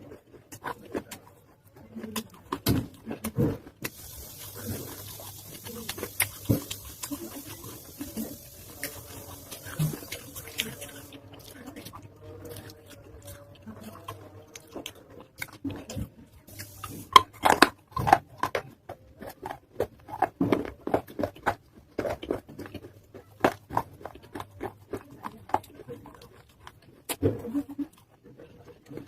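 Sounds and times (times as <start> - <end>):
moist chewing: 0.0 - 29.0.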